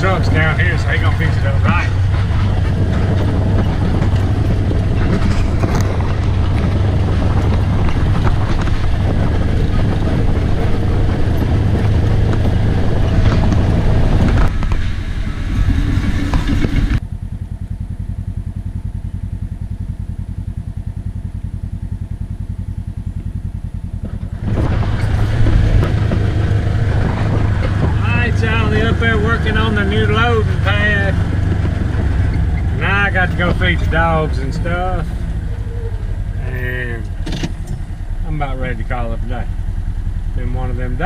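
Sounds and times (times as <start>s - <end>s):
vehicle engine running: 0.0s - 41.0s
wind and road noise: 0.0s - 41.0s.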